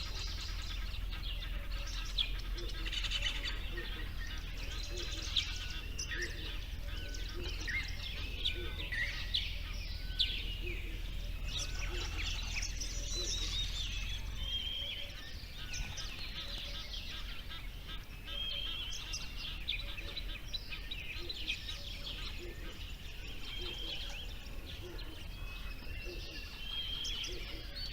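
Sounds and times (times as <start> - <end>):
birds chirping chorus: 0.0 - 27.9.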